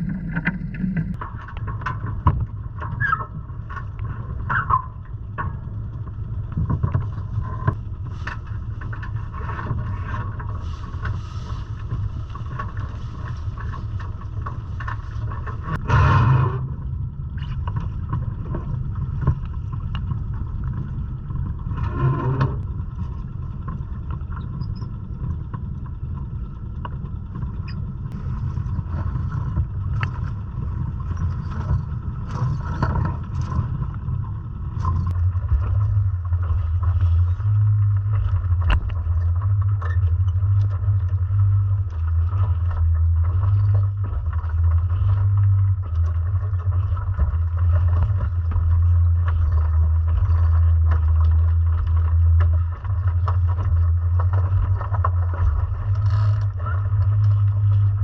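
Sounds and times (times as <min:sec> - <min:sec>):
low rumble: 0:00.0 - 0:58.0
wind noise: 0:00.0 - 0:58.0.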